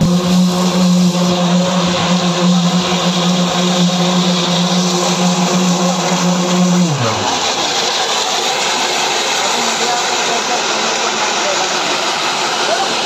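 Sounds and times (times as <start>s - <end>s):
concrete vibrators high hum: 0.0s - 13.0s
paving machine mechanical noise: 0.0s - 13.0s.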